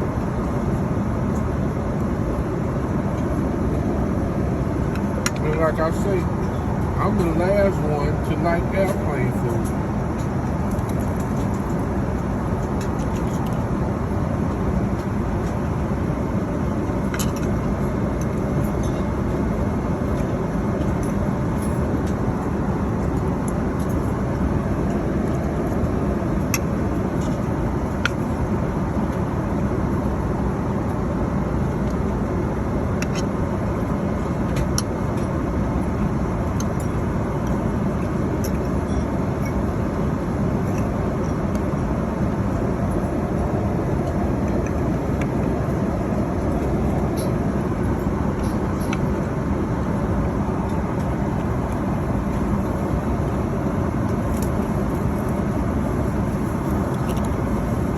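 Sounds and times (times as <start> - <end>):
airliner cabin engine rush: 0.0 - 57.9.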